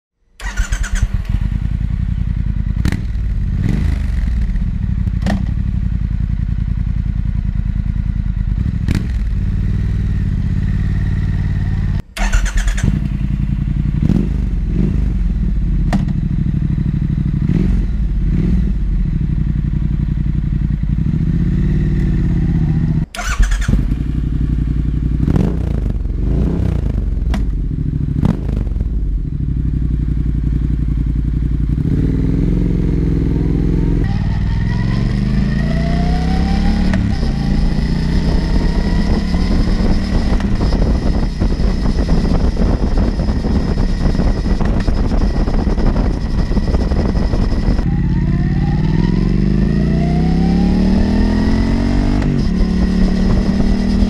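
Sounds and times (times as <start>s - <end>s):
motorcycle engine idling and revving: 0.2s - 54.0s.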